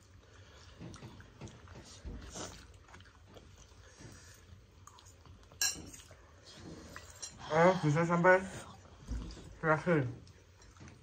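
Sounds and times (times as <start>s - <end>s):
people chewing noodles: 0.0s - 11.0s.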